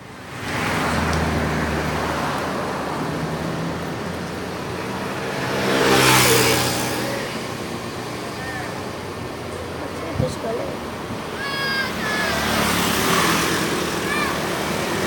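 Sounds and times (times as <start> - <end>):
vehicle passing by: 0.4 - 15.0.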